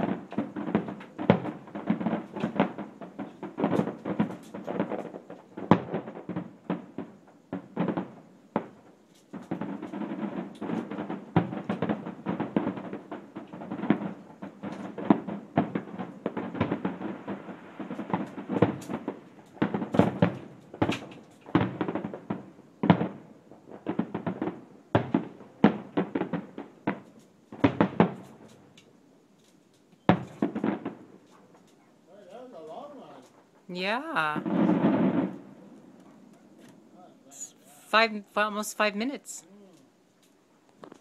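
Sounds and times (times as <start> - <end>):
fireworks and firecrackers banging: 0.0 - 41.0.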